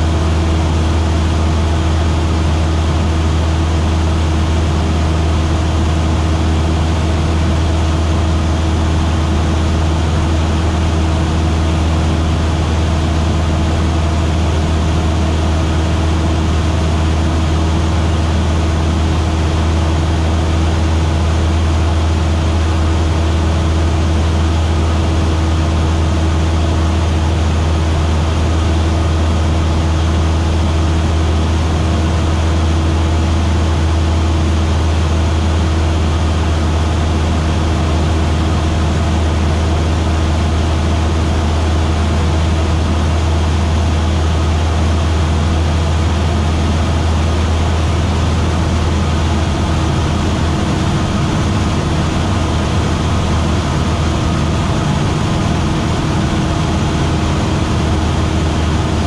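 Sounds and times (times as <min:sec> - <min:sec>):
aircraft engine droning: 0:00.0 - 0:59.0.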